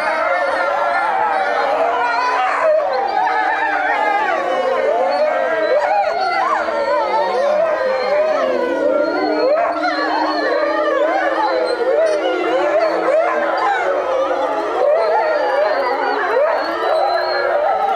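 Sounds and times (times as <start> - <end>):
wolves howling in chorus: 0.0 - 17.9
wolves yelping: 0.0 - 17.9.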